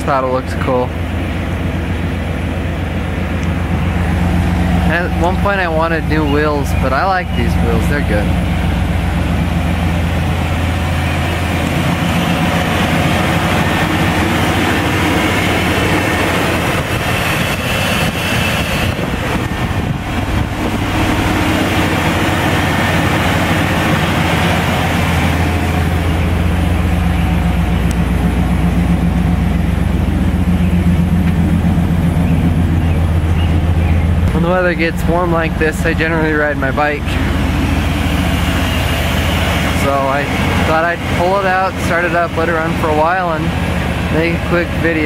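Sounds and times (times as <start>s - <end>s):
pickup engine idling: 0.0s - 45.0s.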